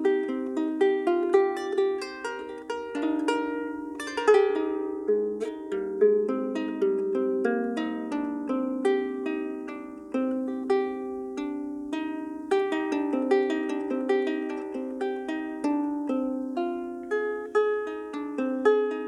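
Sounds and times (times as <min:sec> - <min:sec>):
harp being plucked: 0:00.0 - 0:19.0.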